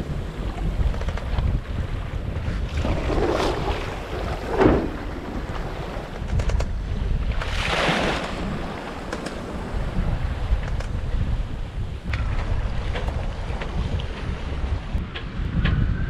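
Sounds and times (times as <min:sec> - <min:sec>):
waves slapping against hull: 0:00.0 - 0:15.9
water rushing along a hull: 0:00.0 - 0:16.0
wind rumble on microphone: 0:00.0 - 0:16.0.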